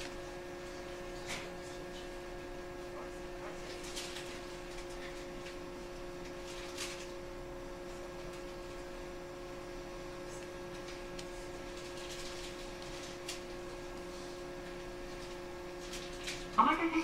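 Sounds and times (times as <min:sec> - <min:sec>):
two-pitched electrical hum: 0:00.0 - 0:17.0.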